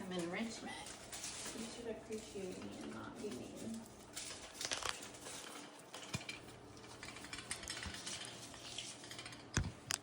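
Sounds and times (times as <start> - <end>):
small objects clicking and rattling: 0.0 - 10.0.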